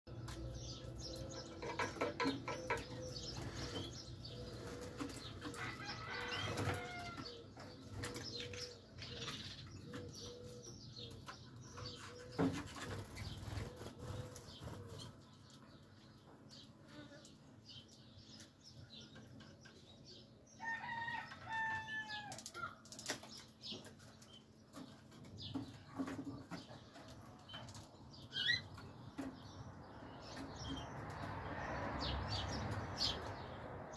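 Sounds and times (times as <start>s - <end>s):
canaries chirping: 0.1s - 33.9s.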